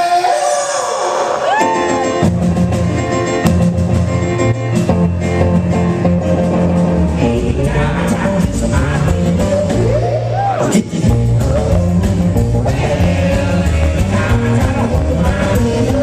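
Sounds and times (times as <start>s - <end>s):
rock band playing: 1.1s - 16.0s
bass and drums steady beat: 2.0s - 16.0s.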